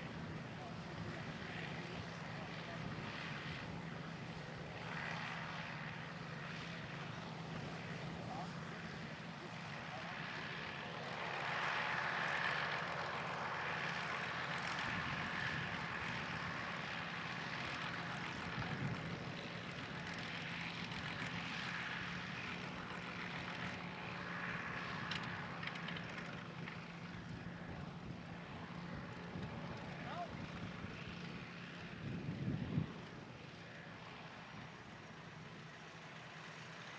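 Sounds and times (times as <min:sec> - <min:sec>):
farm machinery engine humming: 0:00.0 - 0:36.9.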